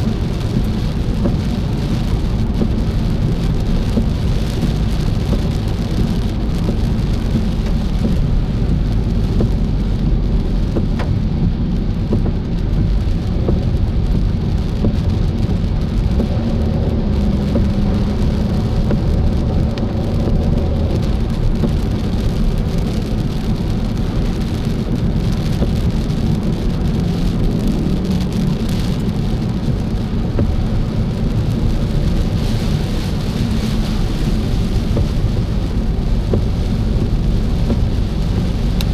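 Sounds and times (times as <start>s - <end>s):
rain on car: 0.0s - 38.9s
road and engine rumble: 0.0s - 38.9s.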